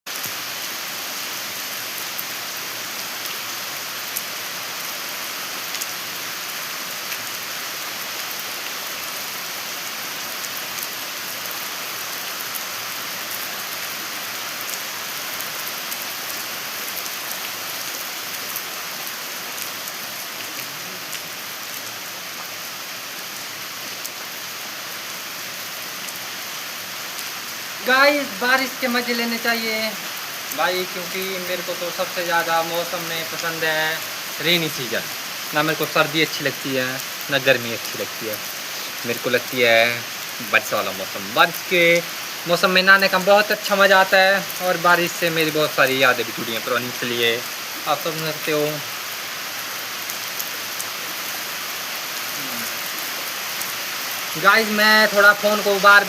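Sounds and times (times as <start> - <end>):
steady rain hiss: 0.1 - 56.0.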